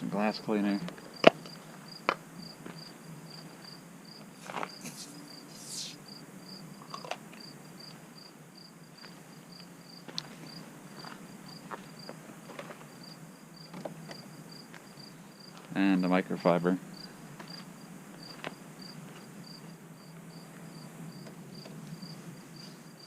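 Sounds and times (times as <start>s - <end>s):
cricket chirping: 0.6s - 15.7s, 16.8s - 23.0s.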